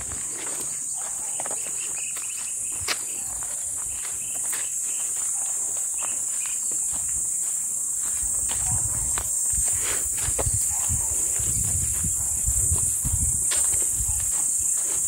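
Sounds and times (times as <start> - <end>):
insects droning: 0.0 - 15.0
taps and footsteps: 0.0 - 15.0.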